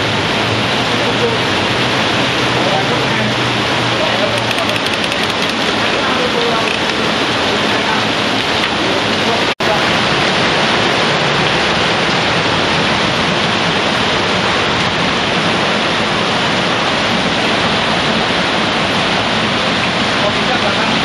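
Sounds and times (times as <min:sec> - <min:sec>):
rain pouring: 0:00.0 - 0:21.0.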